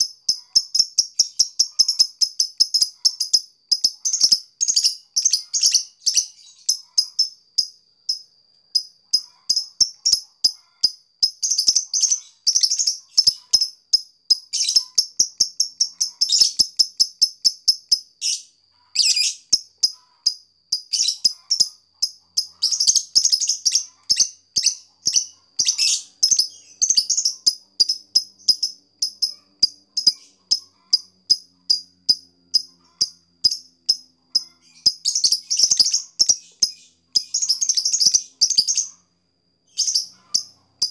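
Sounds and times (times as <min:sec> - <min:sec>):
bird ticking chirps: 0:00.0 - 0:39.1, 0:39.7 - 0:40.9.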